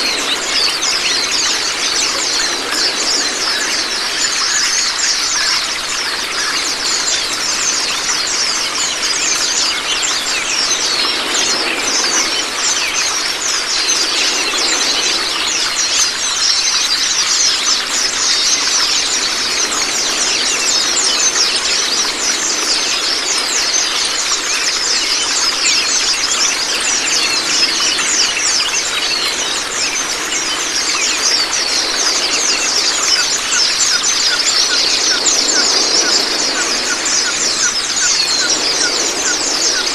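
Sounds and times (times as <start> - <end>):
birds twittering: 0.0 - 39.9
running water rushing: 0.0 - 39.9.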